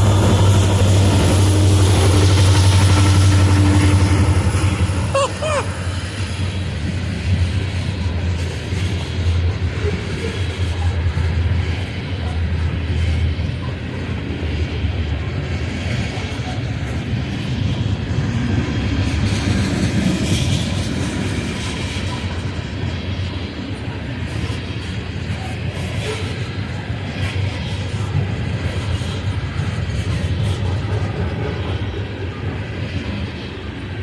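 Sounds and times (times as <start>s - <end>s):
diesel locomotive drone: 0.0s - 34.0s
train wheels rumbling and clicking: 0.0s - 34.0s.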